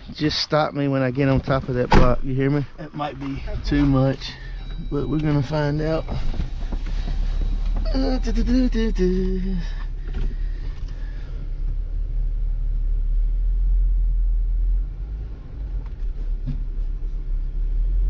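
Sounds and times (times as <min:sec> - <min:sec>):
truck engine running low: 0:03.5 - 0:18.0.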